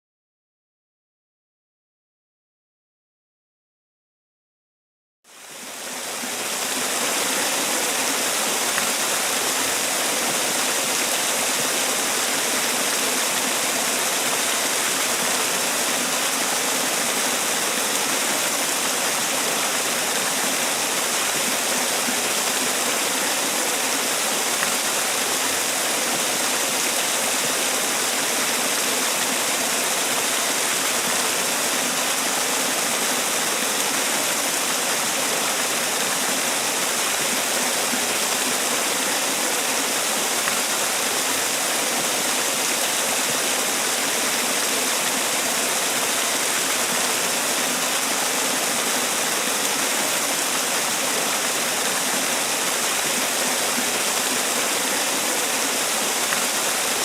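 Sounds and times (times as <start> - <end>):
waterfall rushing: 5.4 - 57.0.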